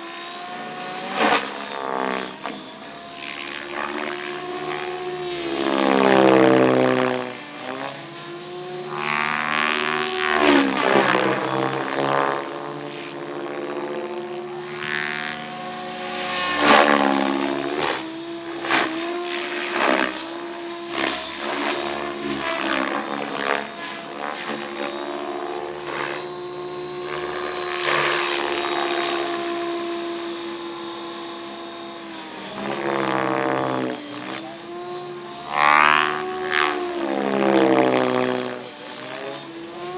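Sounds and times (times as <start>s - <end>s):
high motor whine: 0.0s - 39.9s
model helicopter rotor thrashing: 0.4s - 39.9s.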